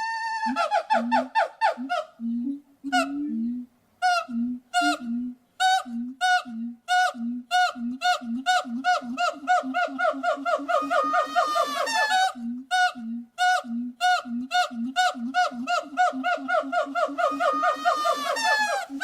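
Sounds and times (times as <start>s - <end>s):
primate hooting: 0.0s - 19.0s.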